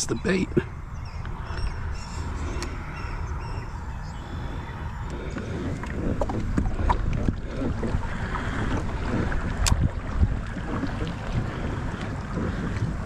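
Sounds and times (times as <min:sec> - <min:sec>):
water against kayak hull: 0:00.0 - 0:13.0
wind rumbling on microphone: 0:00.0 - 0:13.0.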